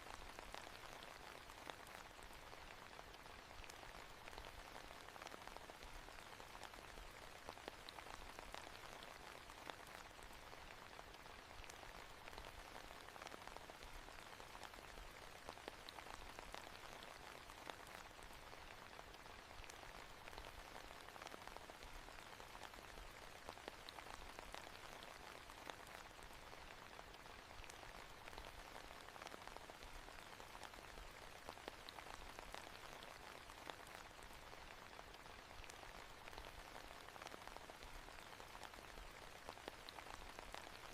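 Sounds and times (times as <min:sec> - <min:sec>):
faint rain pattering: 0:00.0 - 0:40.9.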